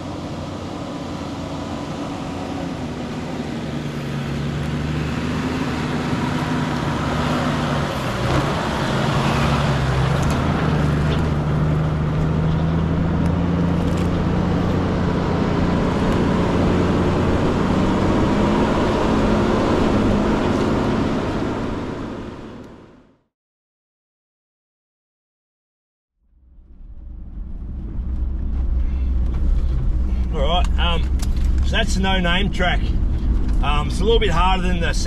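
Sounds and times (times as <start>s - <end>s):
tyre and road noise: 0.0s - 23.0s, 26.3s - 35.0s
vehicle engine driving: 0.0s - 23.2s, 26.2s - 35.0s.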